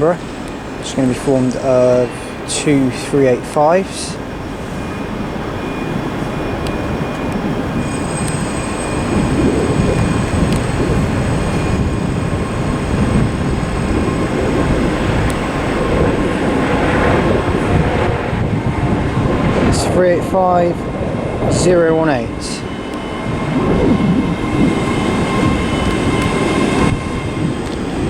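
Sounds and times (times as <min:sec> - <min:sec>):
high-pitched train whine: 0:00.0 - 0:28.0
train rumbling: 0:00.0 - 0:28.0.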